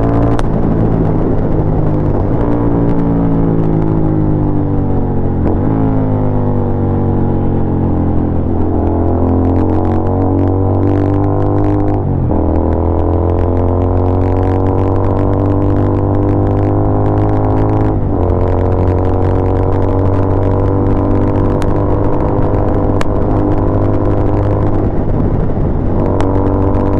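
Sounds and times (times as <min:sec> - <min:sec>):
exhaust crackling and popping: 0:00.0 - 0:26.9
motorcycle engine running: 0:00.0 - 0:26.9.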